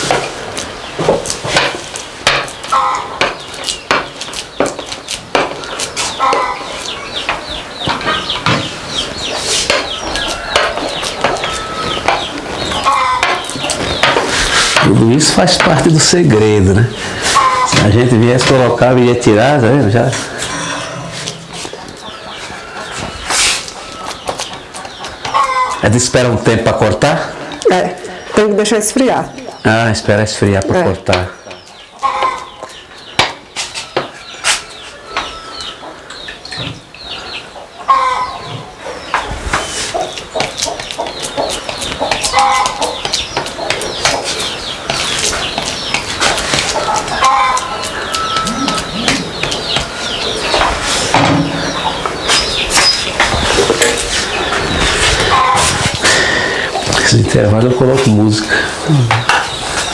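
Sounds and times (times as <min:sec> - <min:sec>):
chickens clucking: 0:00.0 - 0:59.9
small birds chirping: 0:00.0 - 0:59.9.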